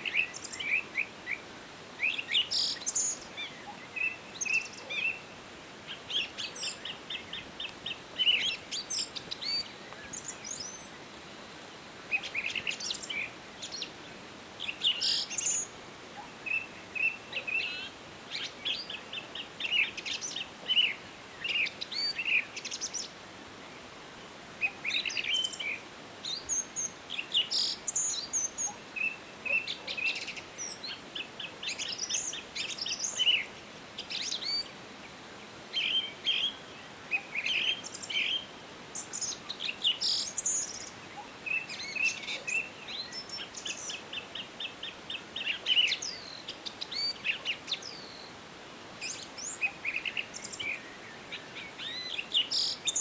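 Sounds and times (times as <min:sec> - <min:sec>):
faint background hiss: 0:00.0 - 0:53.0
songbirds chirping: 0:00.0 - 0:53.0.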